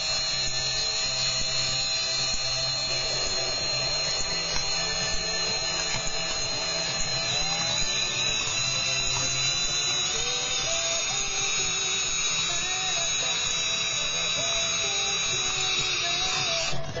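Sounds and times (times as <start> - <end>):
electric drill motor whine: 0.0 - 17.0
faint music: 0.0 - 17.0.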